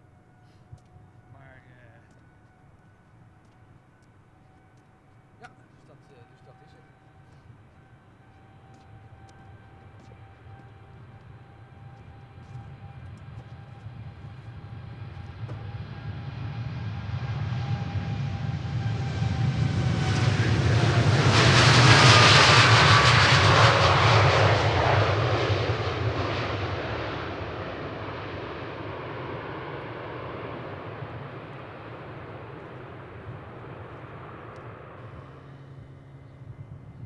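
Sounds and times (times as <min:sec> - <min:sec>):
jet airliner taking off: 0:00.0 - 0:37.0.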